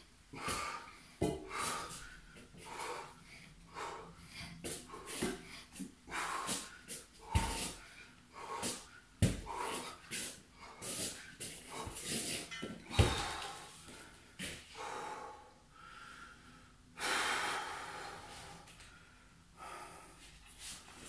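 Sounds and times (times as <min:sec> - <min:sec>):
man breathing hard: 0:00.3 - 0:21.0.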